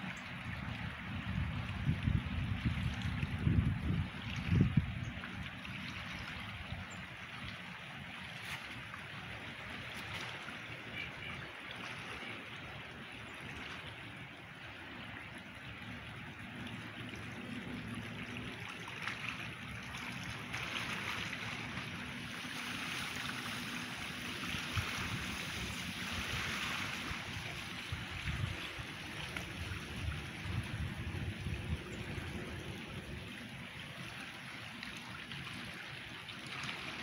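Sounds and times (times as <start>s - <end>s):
rippling water: 0.0s - 37.0s
wind rumbling on microphone: 0.0s - 37.0s.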